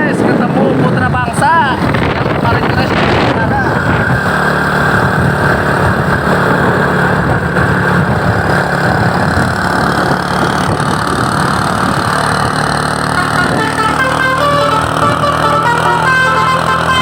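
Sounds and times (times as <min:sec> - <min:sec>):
road noise: 0:00.0 - 0:17.0
vehicle engine running: 0:00.0 - 0:17.0.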